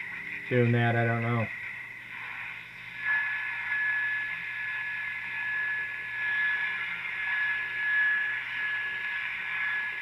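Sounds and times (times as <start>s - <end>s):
radio static hiss: 0.0s - 10.0s
steady high whistle: 1.2s - 10.0s.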